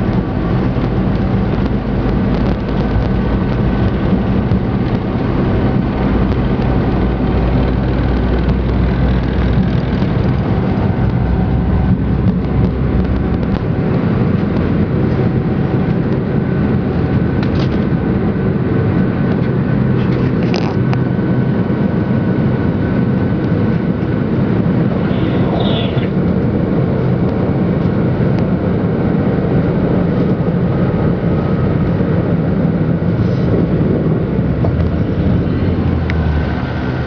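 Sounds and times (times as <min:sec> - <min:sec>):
deep rumble: 0:00.0 - 0:37.0
jet engines at takeoff power: 0:00.0 - 0:37.0.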